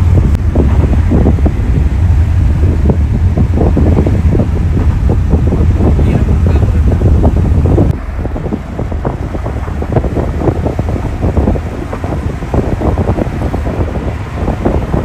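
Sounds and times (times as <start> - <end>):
road and wind rumble in car: 0.0 - 15.0
wind gusts on microphone: 0.0 - 15.0.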